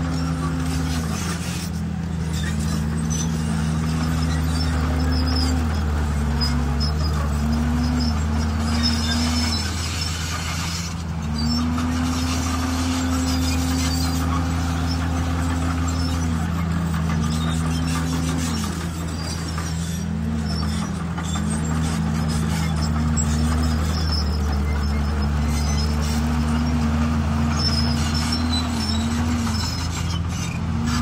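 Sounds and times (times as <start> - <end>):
bulldozer diesel engine drone: 0.0 - 31.0
engine whine: 0.0 - 31.0.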